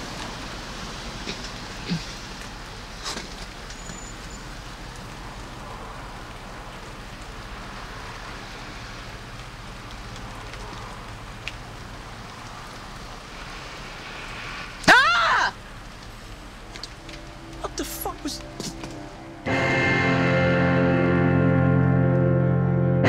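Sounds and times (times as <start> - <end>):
outdoor ambience hiss: 0.0 - 22.9.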